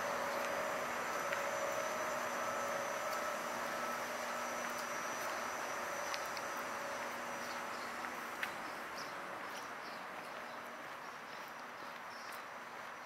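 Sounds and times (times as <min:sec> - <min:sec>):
outdoor hiss-like haze: 0:00.0 - 0:13.0.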